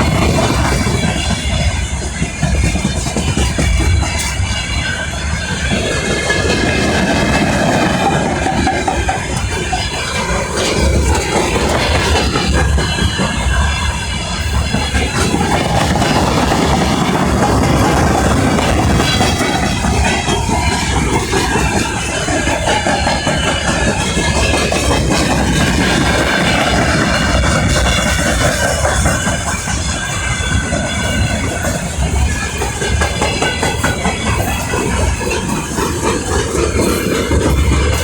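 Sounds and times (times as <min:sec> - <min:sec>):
train wheels rumbling on rails: 0:00.0 - 0:38.0
wheels squealing: 0:00.0 - 0:38.0.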